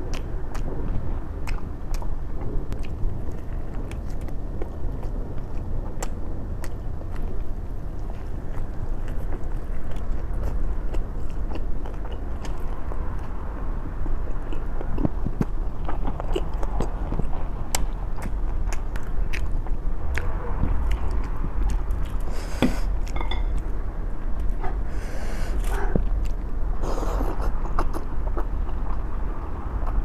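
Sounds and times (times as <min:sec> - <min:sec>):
person chewing food: 0:00.0 - 0:13.4, 0:14.0 - 0:23.8, 0:24.4 - 0:30.0.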